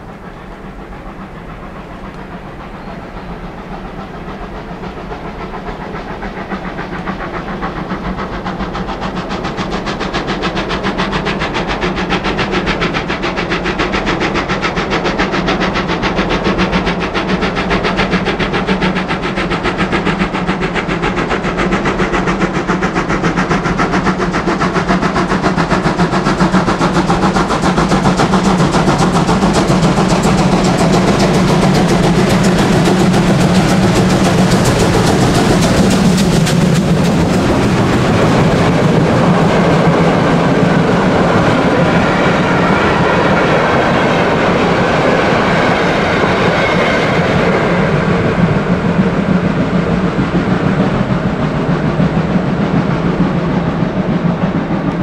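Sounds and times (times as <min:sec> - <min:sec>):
steam locomotive exhaust beating: 0:00.0 - 0:55.0.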